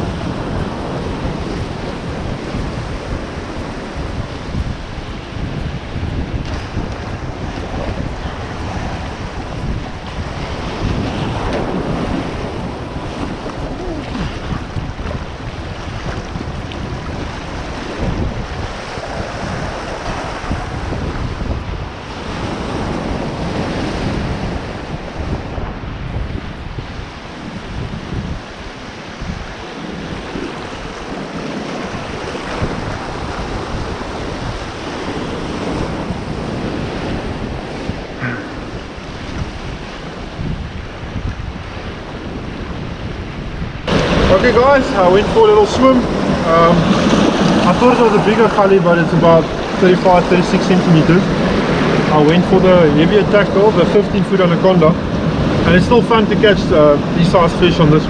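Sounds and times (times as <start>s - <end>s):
surf breaking over rocks: 0.0s - 25.4s, 26.2s - 58.0s
wind buffeting microphone: 0.0s - 58.0s.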